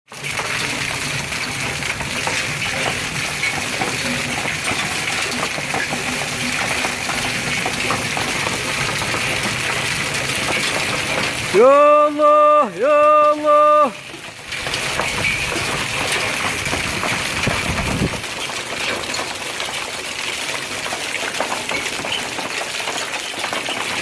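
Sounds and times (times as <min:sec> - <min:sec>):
steady rainfall: 0:00.1 - 0:24.0.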